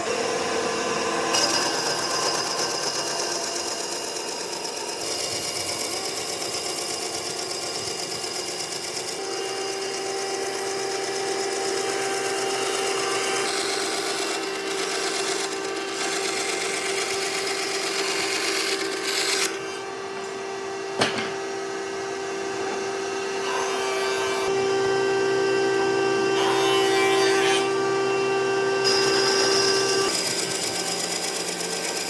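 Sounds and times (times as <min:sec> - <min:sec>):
power tool motor whine: 0:00.0 - 0:23.5, 0:27.6 - 0:32.0.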